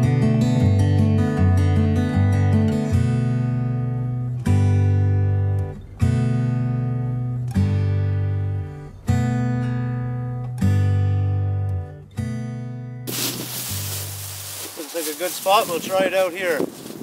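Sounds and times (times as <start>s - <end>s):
acoustic guitar strumming chords: 0.0s - 14.7s.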